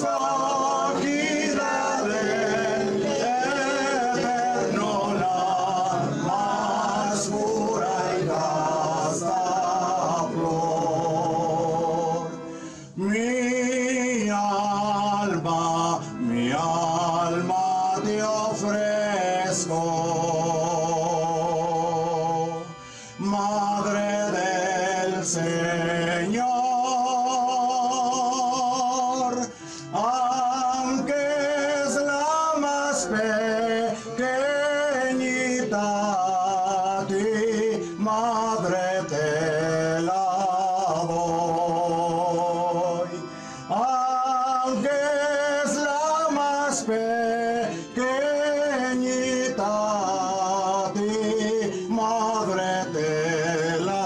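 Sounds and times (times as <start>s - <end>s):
instrumental accompaniment: 0.0s - 54.0s
solo voice singing a hymn: 0.0s - 54.0s.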